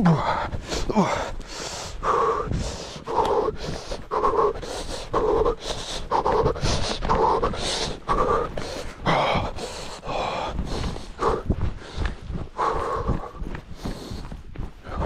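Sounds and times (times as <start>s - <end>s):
man panting: 0.0s - 15.0s.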